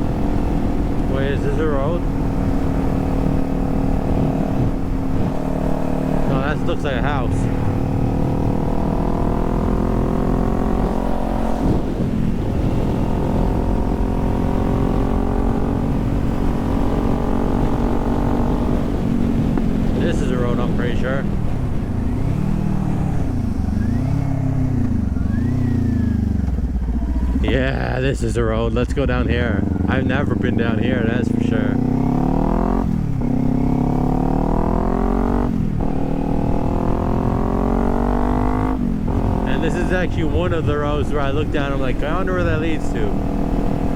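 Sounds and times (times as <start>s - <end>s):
motorcycle engine running: 0.0s - 43.9s
wind rumble on microphone: 0.0s - 43.9s.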